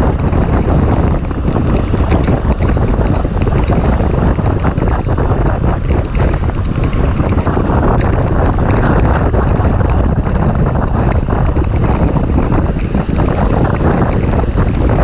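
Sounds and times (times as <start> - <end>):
sharp ticks: 0.0 - 15.0
wind buffeting microphone: 0.0 - 15.0.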